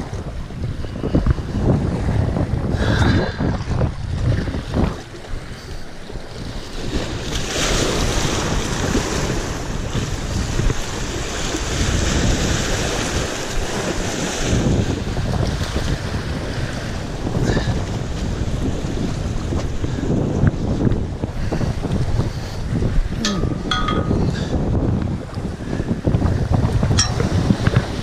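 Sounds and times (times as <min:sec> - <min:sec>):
wind buffeting microphone: 0:00.0 - 0:28.0
surf washing over rocks: 0:02.7 - 0:28.0.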